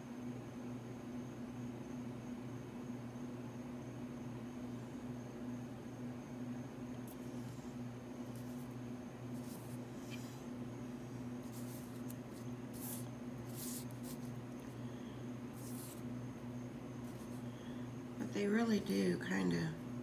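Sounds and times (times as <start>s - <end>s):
faint high whine: 0.0s - 20.0s
low electrical hum: 0.0s - 20.0s.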